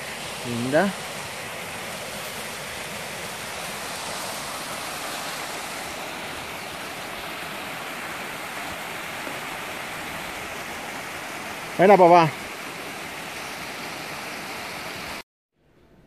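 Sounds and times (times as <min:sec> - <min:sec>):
stream rushing over cascade: 0:00.0 - 0:15.2.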